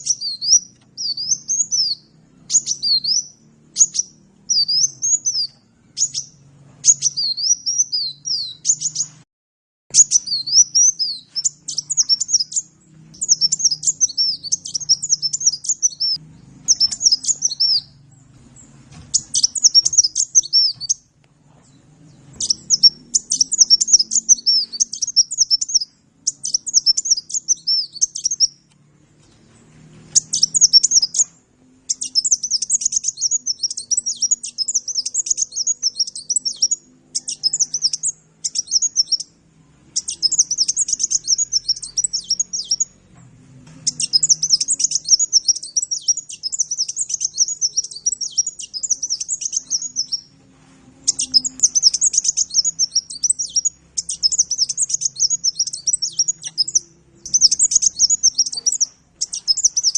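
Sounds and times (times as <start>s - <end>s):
bird twittering chirps: 0.0s - 9.2s, 9.9s - 28.8s, 30.1s - 39.4s, 40.0s - 43.0s, 43.8s - 50.4s, 51.0s - 59.9s.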